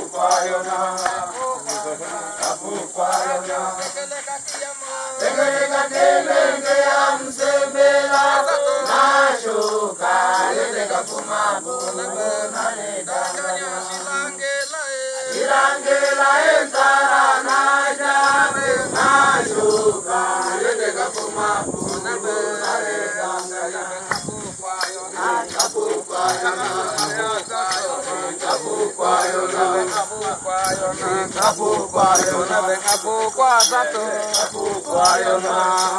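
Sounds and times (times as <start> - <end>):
group chanting: 0.0 - 35.9.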